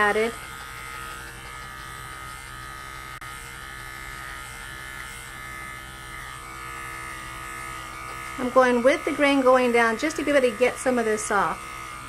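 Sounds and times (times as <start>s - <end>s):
electric clippers humming: 0.0s - 12.0s.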